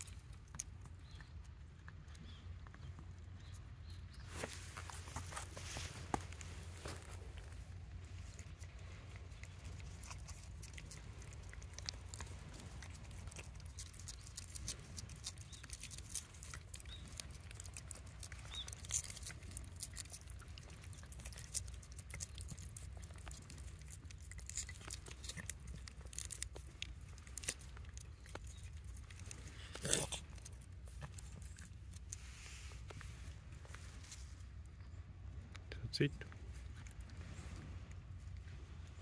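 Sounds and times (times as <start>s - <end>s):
low steady rumble: 0.0s - 39.0s.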